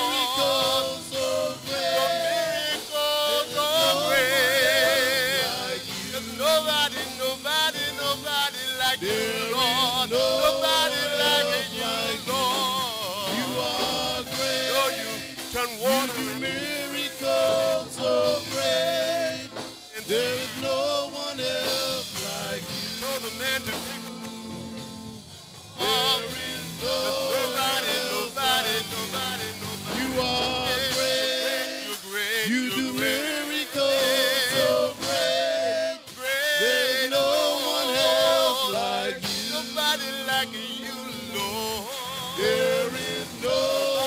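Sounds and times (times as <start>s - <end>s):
lead male voice singing runs: 0.0s - 25.1s, 25.8s - 44.0s
drums: 0.0s - 44.0s
keyboard: 0.0s - 44.0s
men's chorus singing gospel: 0.0s - 44.0s.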